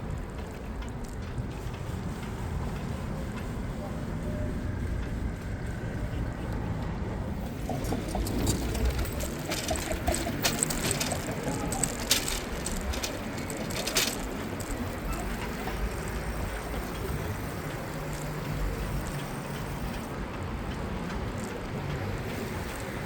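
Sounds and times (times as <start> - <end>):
traffic noise: 0.0 - 23.0
wind: 0.0 - 23.0.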